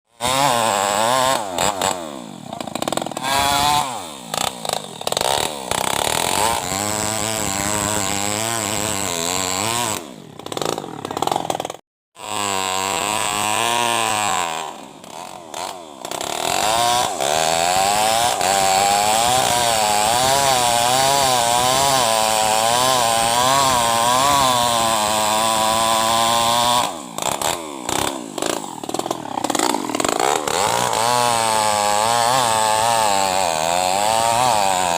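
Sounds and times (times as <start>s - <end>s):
chainsaw running at high revs: 0.1s - 34.9s.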